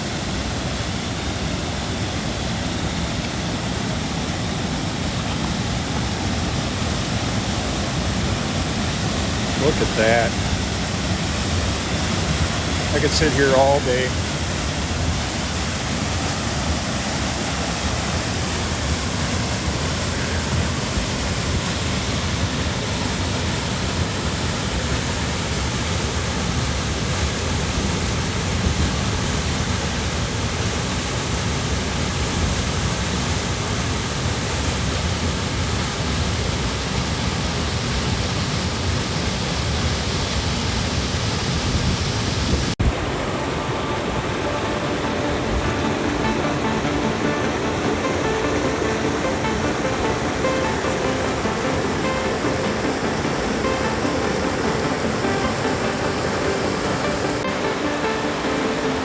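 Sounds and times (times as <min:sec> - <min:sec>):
waterfall rushing: 0:00.0 - 0:34.4, 0:40.1 - 0:59.0.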